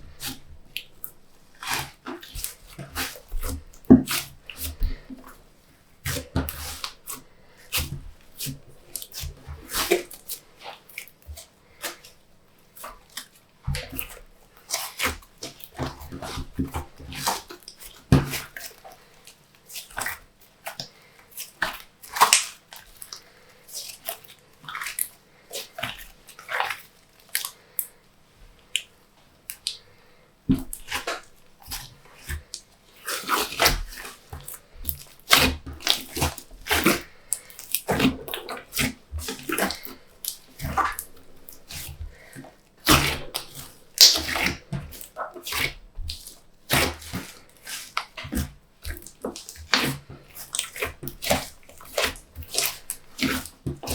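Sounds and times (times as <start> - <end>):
slime squishing with wet clicks: 0.2 - 4.9, 6.0 - 28.0, 28.6 - 29.9, 30.5 - 53.9.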